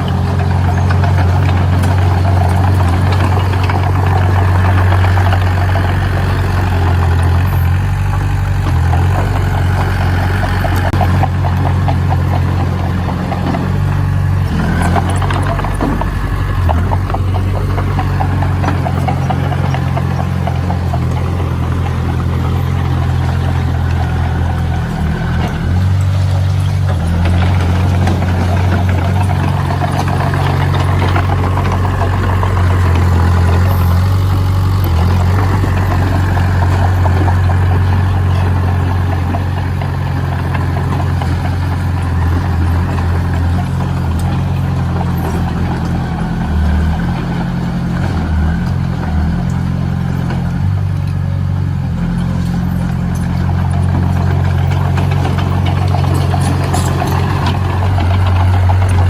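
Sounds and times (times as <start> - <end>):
construction machine engine running: 0.0 - 59.0.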